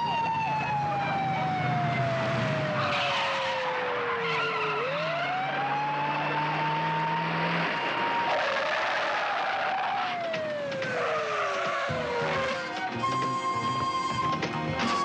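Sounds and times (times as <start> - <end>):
police siren wailing: 0.0 - 15.0
tyres on road: 0.0 - 15.0
car engine: 0.7 - 13.0.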